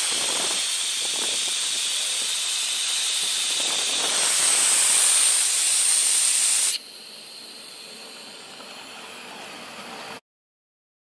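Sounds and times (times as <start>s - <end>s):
compressed air hissing: 0.0s - 10.1s.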